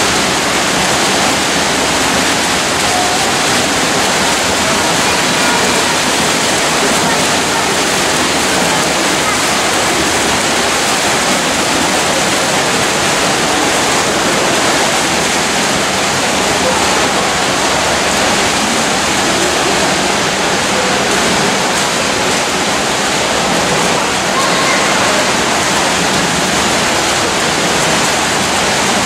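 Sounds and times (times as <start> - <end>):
swimmers splashing: 0.0 - 29.0.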